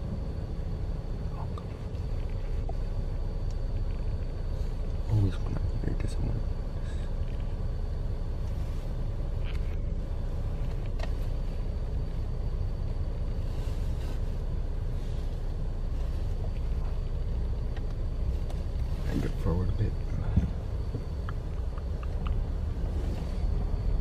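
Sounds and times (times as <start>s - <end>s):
low vehicle rumble: 0.0s - 24.0s.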